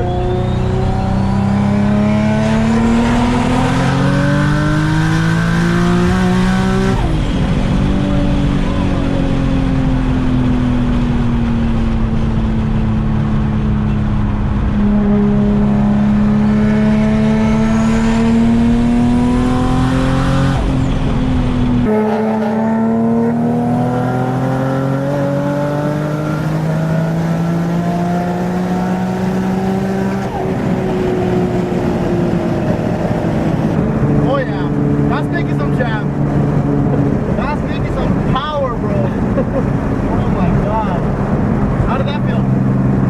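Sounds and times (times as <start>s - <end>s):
car engine accelerating: 0.0s - 43.0s.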